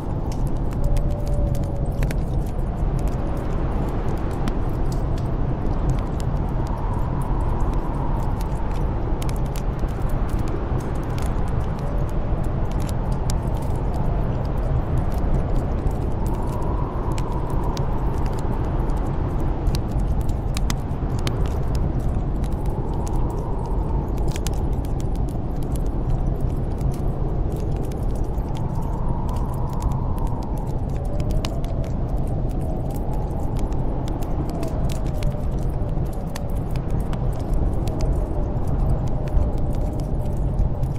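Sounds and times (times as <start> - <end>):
howling wind whistle: 0.0 - 40.9
wind blowing with deep rumble: 0.0 - 40.9
wood fire crackling: 0.0 - 40.9.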